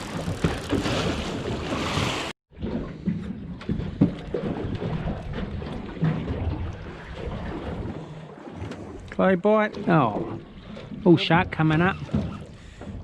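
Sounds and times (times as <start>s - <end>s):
water washing against boat: 0.0s - 13.0s.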